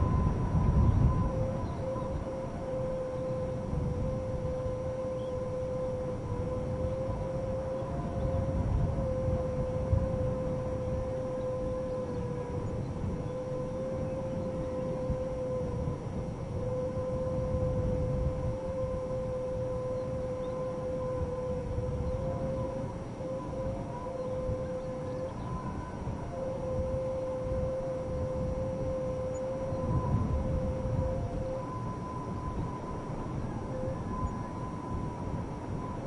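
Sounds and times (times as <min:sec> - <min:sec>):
low gusting wind: 0:00.0 - 0:36.0
wind whistling through transformer box: 0:00.0 - 0:36.0.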